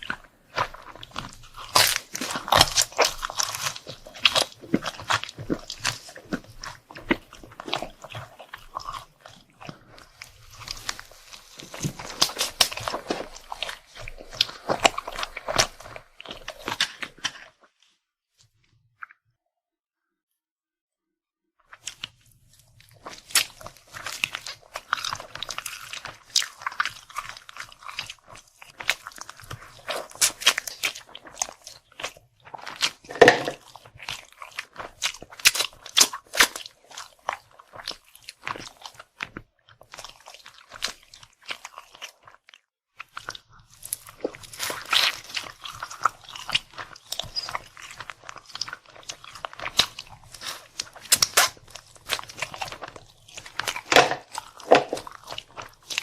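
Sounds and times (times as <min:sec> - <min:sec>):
food crunching and chewing: 0:00.0 - 0:17.8, 0:21.7 - 0:56.0.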